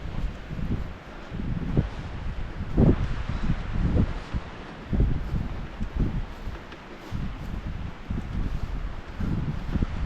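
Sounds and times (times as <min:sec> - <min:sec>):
footsteps crunching in snow: 0:00.0 - 0:10.0
wind rumbling on microphone: 0:00.0 - 0:10.0.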